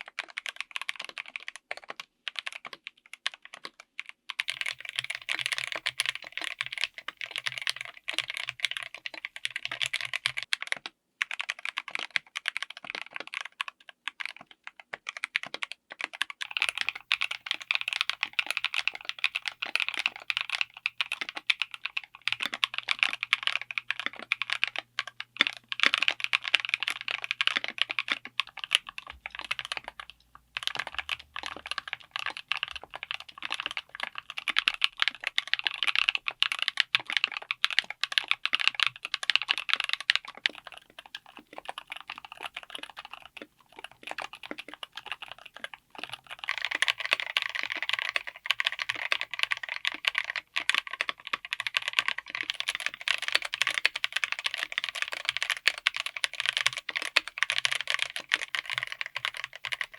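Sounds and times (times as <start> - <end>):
mechanical keyboard typing: 0.0 - 59.9.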